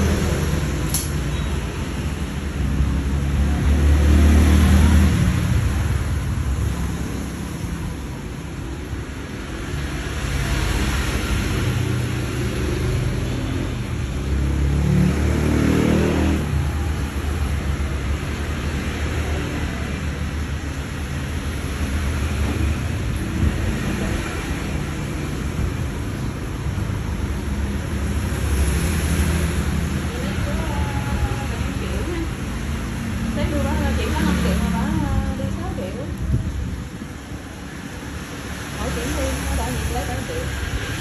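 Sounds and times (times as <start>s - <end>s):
engine rumbling and revving: 0.0s - 41.0s.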